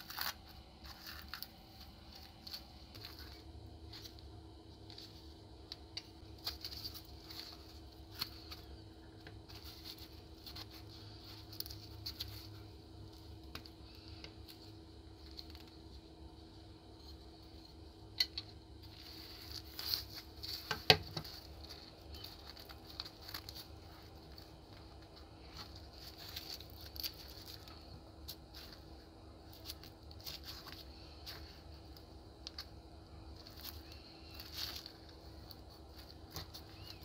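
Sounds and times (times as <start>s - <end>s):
faint steady hum: 0.0s - 37.0s
rubber gloves rustling: 0.0s - 37.0s.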